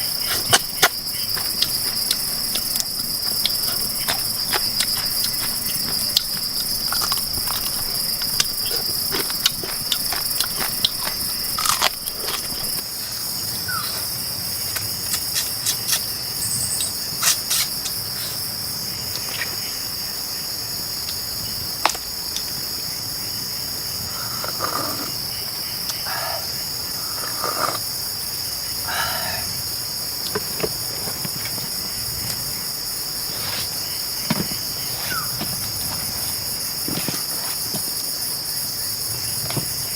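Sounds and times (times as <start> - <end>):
insects droning chorus: 0.0 - 39.9.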